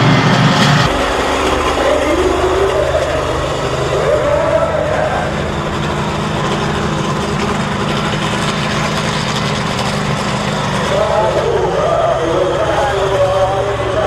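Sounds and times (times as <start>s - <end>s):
monster truck engine running: 0.0s - 14.0s.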